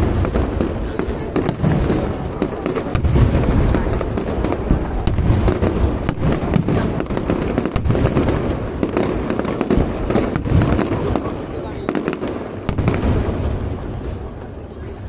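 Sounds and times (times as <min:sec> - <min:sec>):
fireworks deep booms: 0:00.0 - 0:15.0
fireworks sharp cracks: 0:00.0 - 0:15.0.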